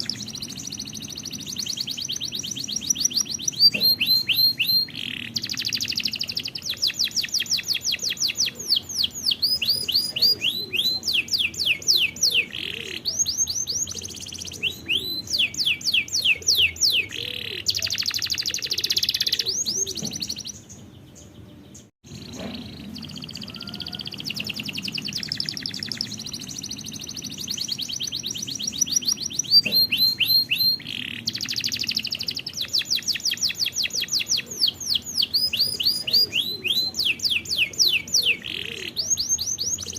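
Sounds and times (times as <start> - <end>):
canary trilling: 0.0 - 20.6, 22.1 - 39.9.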